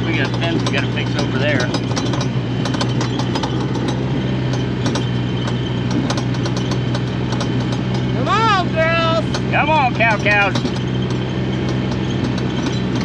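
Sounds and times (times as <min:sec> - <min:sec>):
light clicking and rattling: 0:00.0 - 0:08.2, 0:09.2 - 0:13.0
vehicle engine humming: 0:00.0 - 0:13.0.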